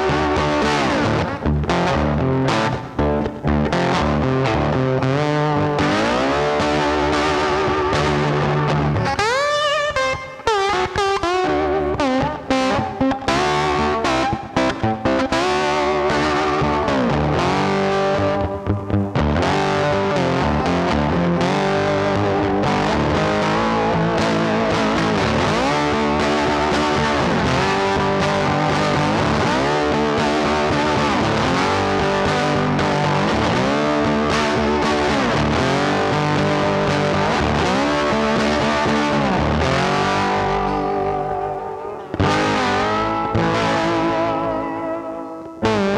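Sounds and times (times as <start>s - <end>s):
rock music with electric guitar: 0.0s - 45.9s.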